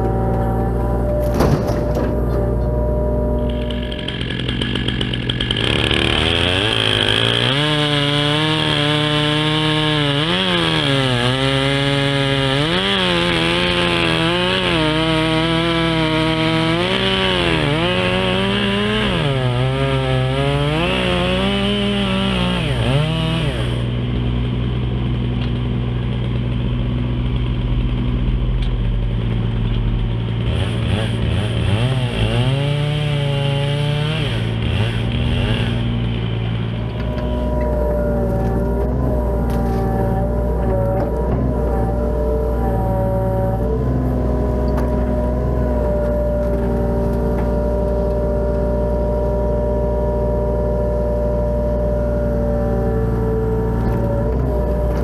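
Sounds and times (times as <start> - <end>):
chainsaw cutting a log: 0.0 - 55.0.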